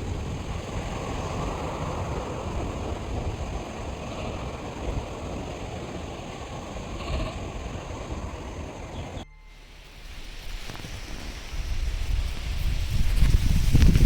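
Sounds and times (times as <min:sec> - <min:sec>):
steady low rushing noise: 0:00.0 - 0:14.0.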